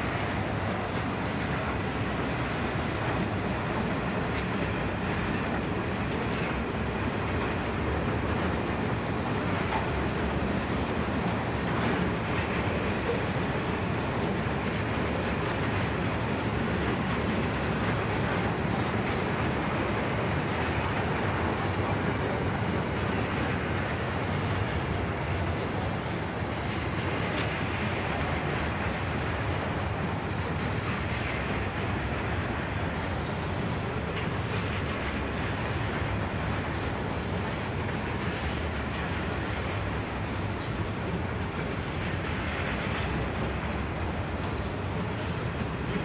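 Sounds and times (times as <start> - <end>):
freight wagons rumbling on rails: 0.0 - 46.0.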